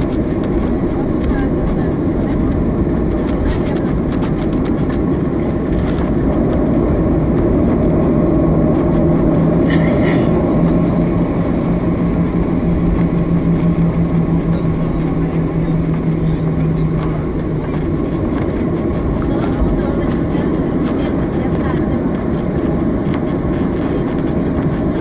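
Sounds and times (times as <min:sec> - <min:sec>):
aircraft engines rumbling: 0:00.0 - 0:25.0
steady low hum: 0:00.0 - 0:25.0.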